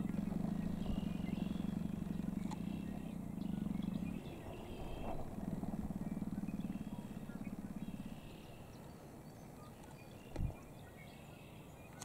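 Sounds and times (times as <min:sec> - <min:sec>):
faint high calls: 0:00.0 - 0:09.9
pulsing low hum: 0:00.0 - 0:11.4.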